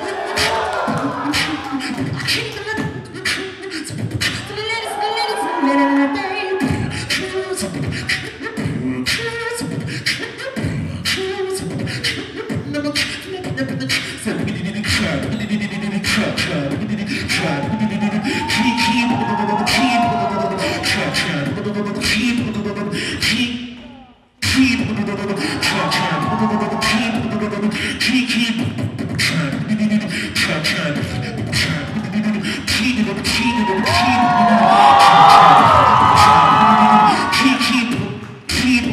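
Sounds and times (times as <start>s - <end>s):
amplified beatboxing: 0.0s - 4.9s, 5.6s - 38.9s.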